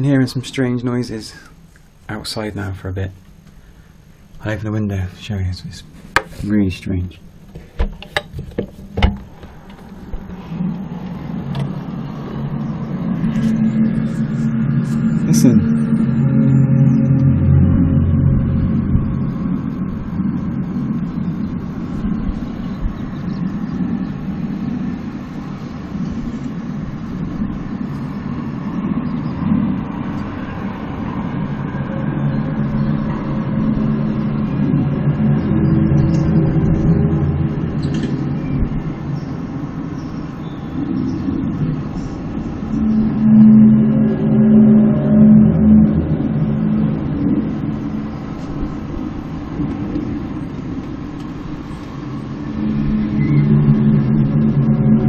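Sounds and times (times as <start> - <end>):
low droning moan: 8.2 - 55.0.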